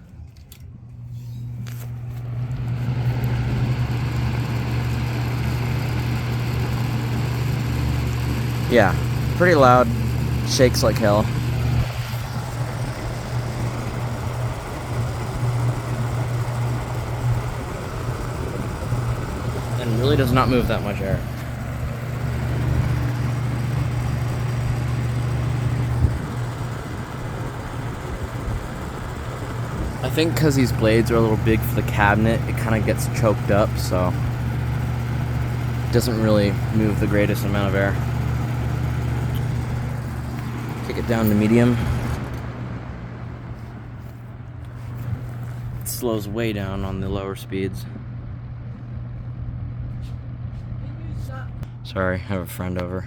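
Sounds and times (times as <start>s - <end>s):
box fan humming: 0.0s - 53.0s.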